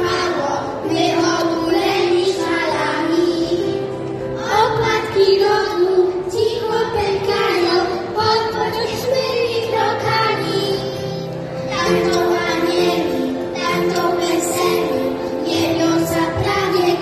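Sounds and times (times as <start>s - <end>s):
children singing into microphone: 0.0s - 17.0s
instrumental accompaniment: 0.0s - 17.0s.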